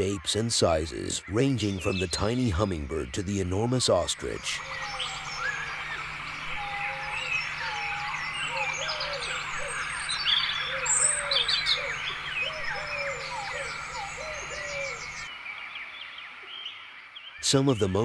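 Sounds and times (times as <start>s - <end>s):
steady low hum: 0.0s - 15.3s
birds chirping and calling: 0.0s - 18.0s.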